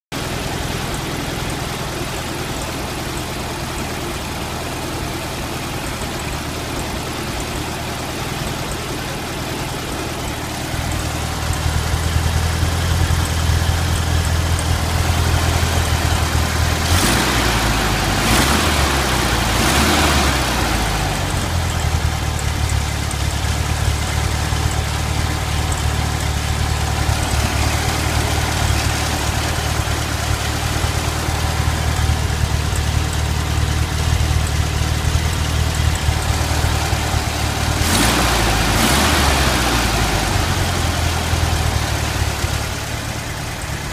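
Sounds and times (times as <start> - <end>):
car engine idling with misfire: 0.1 - 43.9.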